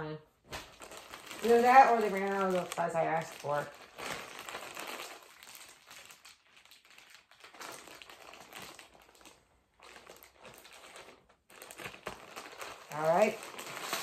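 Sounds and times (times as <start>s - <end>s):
plastic bag crinkling: 0.5s - 14.0s.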